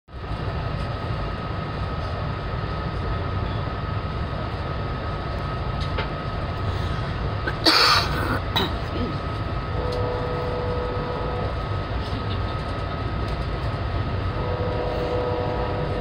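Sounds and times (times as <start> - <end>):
train wheels rumbling on track: 0.1 - 16.0.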